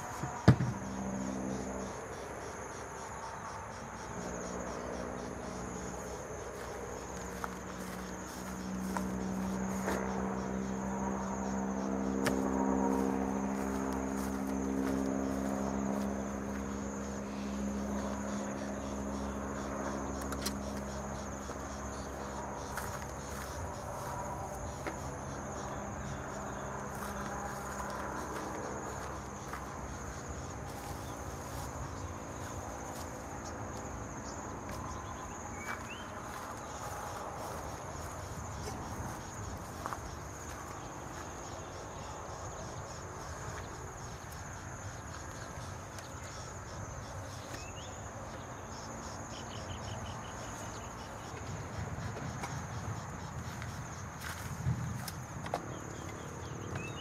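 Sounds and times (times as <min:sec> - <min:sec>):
insects calling: 0:00.0 - 0:57.0.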